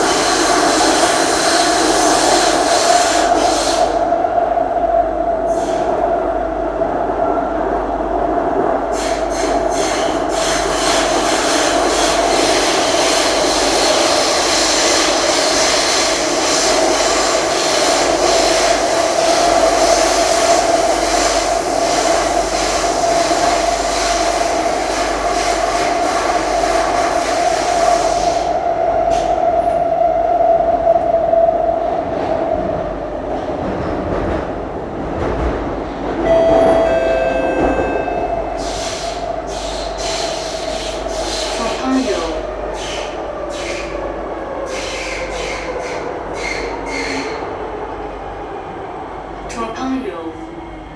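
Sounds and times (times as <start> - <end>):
subway train hum with tone: 0.0 - 50.9.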